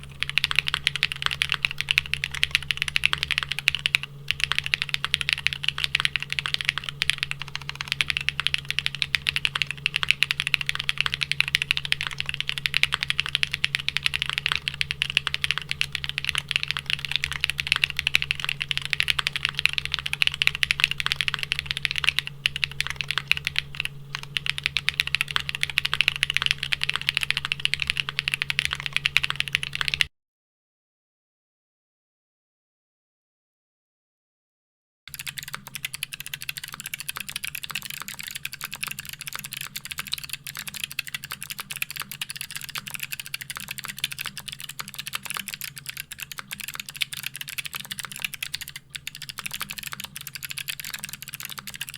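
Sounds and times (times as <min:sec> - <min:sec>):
mechanical keyboard typing: 0:00.0 - 0:30.1, 0:35.1 - 0:51.9.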